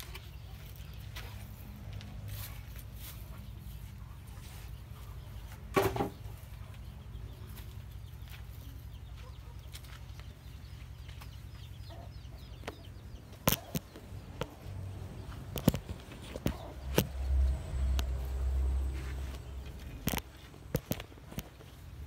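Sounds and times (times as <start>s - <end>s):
chickens clucking and peeping: 0.0s - 22.0s.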